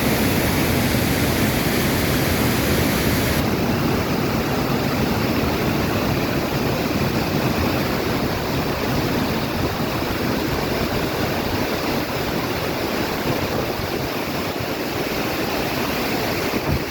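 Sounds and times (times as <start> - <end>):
waterfall pouring into a pool: 0.0 - 16.9.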